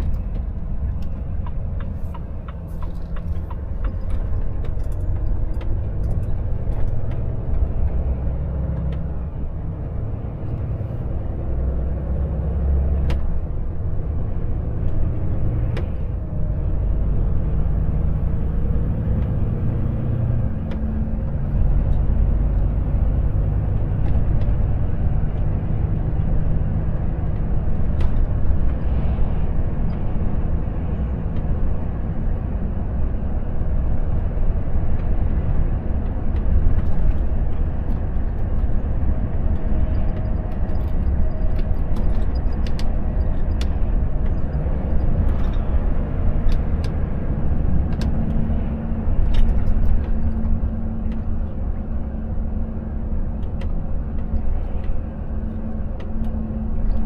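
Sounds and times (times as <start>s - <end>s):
diesel truck engine running: 0.0s - 57.0s
tyre and road noise: 0.0s - 57.0s.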